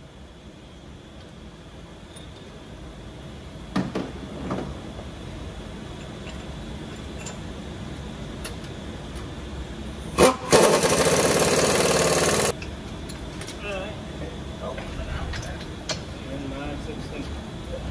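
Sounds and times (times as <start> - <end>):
loud steady mechanical noise: 0.0 - 17.9.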